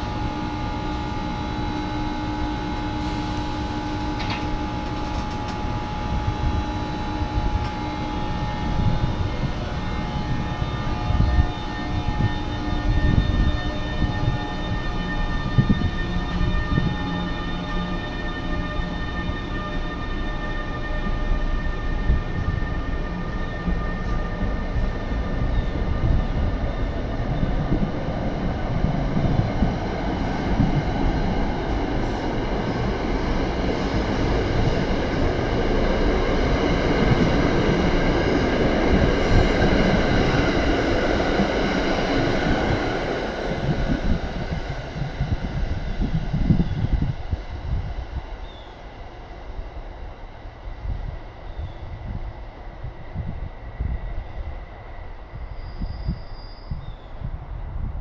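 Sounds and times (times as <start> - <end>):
locomotive whine: 0.0 - 58.0
train wheels rumbling on rails: 0.0 - 58.0.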